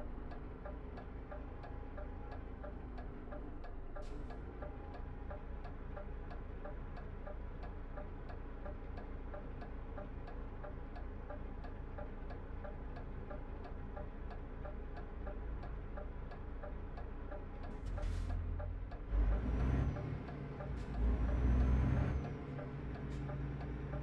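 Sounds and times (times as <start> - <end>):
truck engine drone: 0.0 - 24.0
turn signal ticking: 0.0 - 24.0.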